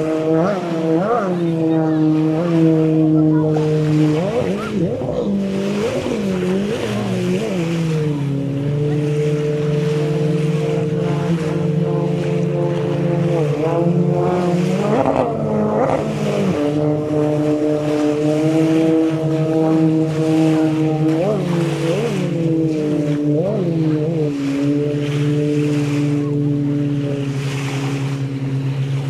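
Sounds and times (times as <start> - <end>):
watercraft engine running: 0.0 - 29.0.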